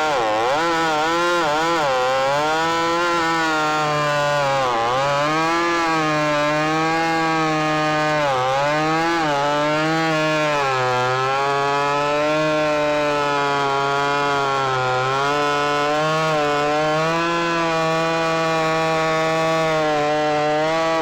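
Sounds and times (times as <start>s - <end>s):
chainsaw cutting wood at full throttle: 0.0s - 21.0s.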